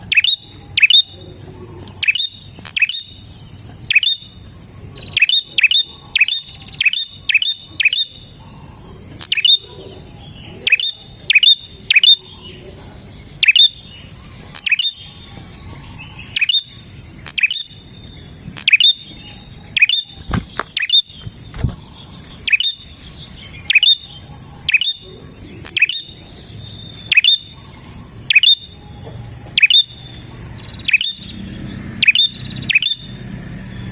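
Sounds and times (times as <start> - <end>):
bird chirping: 0.0 - 33.9.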